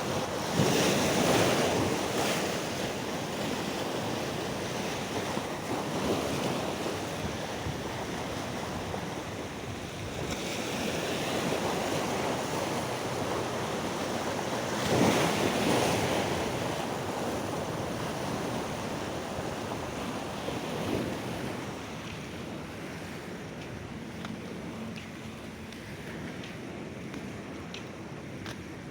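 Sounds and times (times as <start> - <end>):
sea waves breaking on beach: 0.0 - 28.9.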